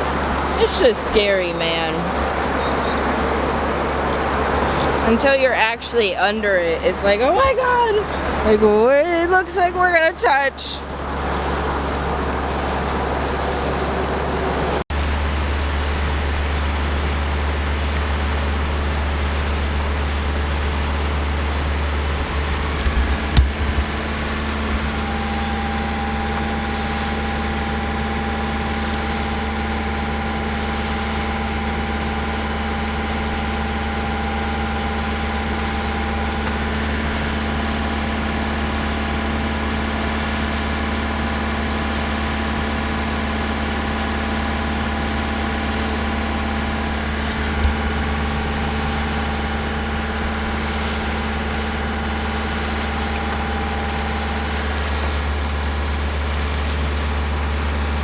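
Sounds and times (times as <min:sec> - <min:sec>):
steady tones: 0:00.0 - 0:11.0, 0:12.3 - 0:57.8
boat engine droning: 0:00.0 - 0:58.0.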